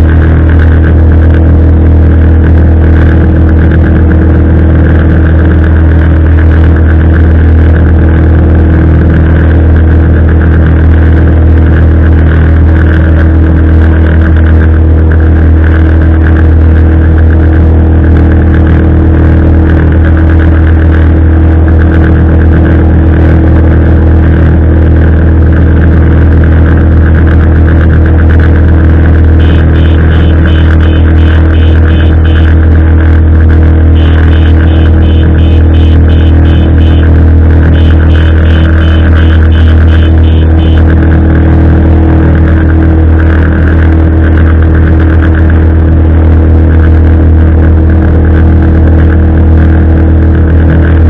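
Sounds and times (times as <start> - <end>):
motorboat engine running: 0.0 - 51.0.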